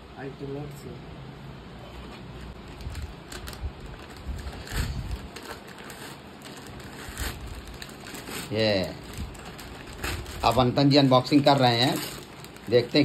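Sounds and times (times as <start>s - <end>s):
paper bag rustling: 2.5s - 13.0s.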